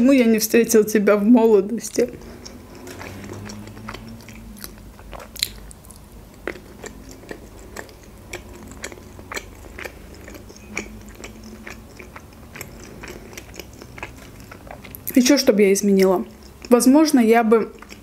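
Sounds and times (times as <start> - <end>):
person chewing with wet mouth clicks: 2.0 - 15.2, 15.9 - 16.8, 17.7 - 18.0.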